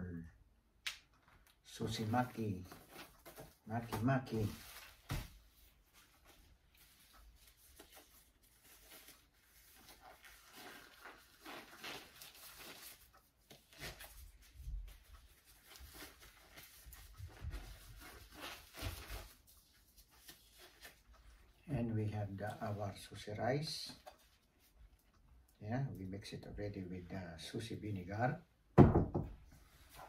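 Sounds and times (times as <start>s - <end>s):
gloves rustling: 1.0s - 26.2s.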